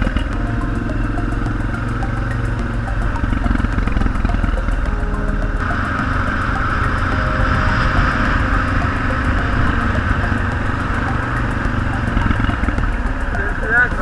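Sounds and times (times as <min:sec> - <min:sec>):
motorcycle engine cruising: 0:00.0 - 0:14.0
wind rushing over microphone: 0:02.6 - 0:14.0.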